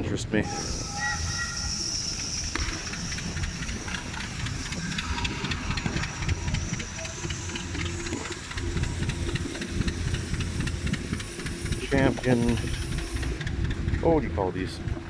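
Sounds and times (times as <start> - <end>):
engine-driven machinery running: 0.0 - 15.0.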